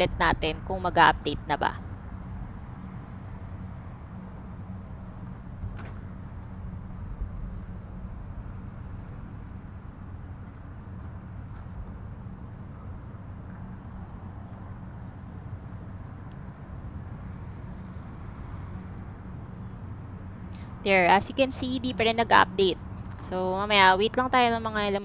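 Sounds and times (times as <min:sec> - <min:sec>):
car engine and tyres rumbling: 0:00.0 - 0:25.0
high pulsing whine: 0:00.0 - 0:25.0.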